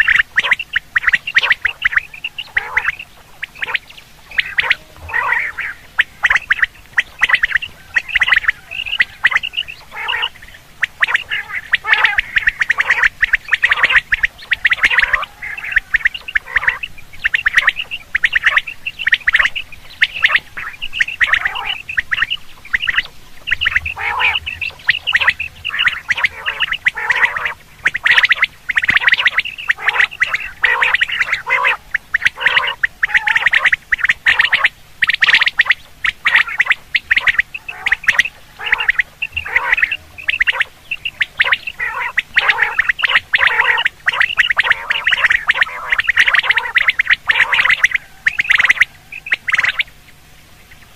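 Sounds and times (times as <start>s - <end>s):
quail calling: 0.0s - 50.9s.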